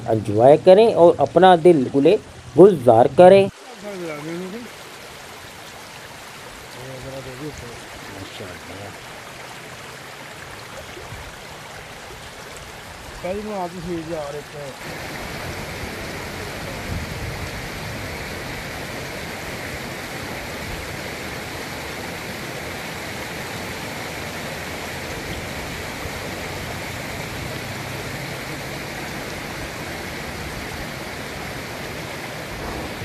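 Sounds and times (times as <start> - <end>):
stream flowing over rocks: 0.0 - 33.0.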